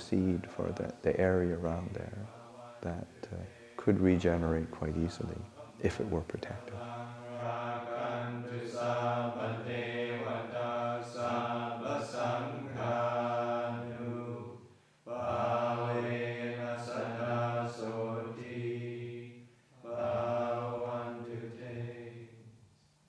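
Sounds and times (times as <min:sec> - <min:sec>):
monks chanting in low voices: 0:00.0 - 0:22.6.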